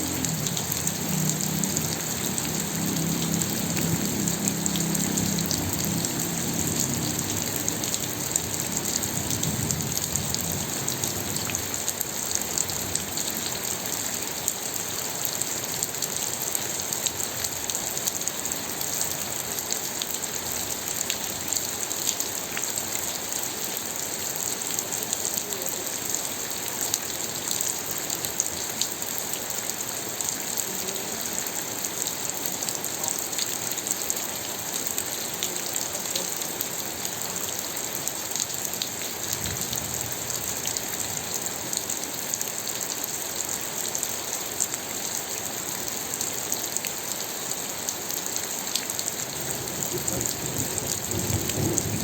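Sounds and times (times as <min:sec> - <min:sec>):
rain pattering on a surface: 0:00.0 - 0:52.0.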